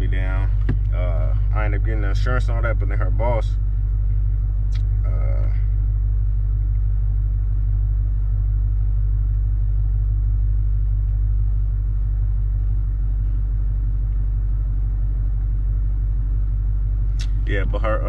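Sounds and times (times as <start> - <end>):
car engine exhaust drone: 0.0 - 18.0.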